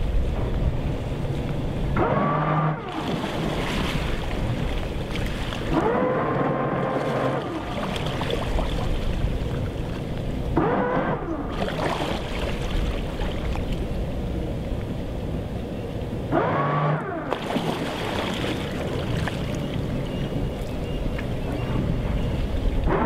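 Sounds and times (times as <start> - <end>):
boat engines rumbling: 0.0 - 23.0.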